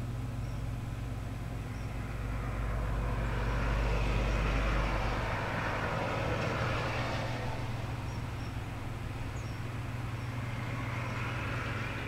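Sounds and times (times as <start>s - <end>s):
steady low hum: 0.0s - 12.0s
vehicle passing by: 1.6s - 12.0s.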